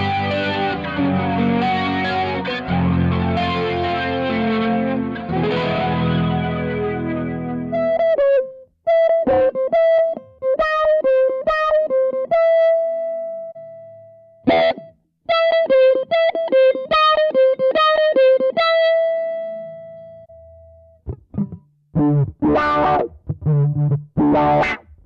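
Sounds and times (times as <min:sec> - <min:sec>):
electric guitar with wah effect: 0:00.0 - 0:25.0.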